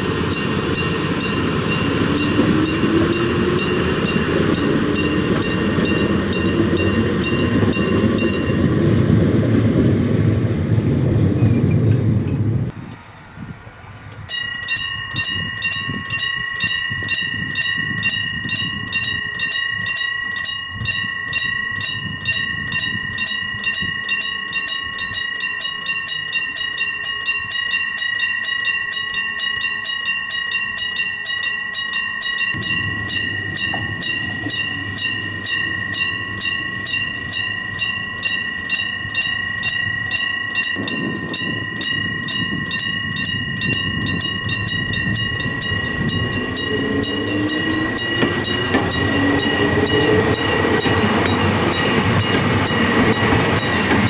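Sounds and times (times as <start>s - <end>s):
level-crossing electric bell: 0.0s - 12.7s, 14.2s - 54.0s
low train rumble: 0.0s - 54.0s.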